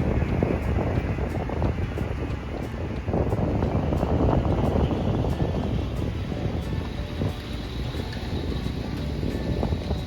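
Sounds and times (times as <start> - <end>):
excavator engine rumbling: 0.0 - 10.0.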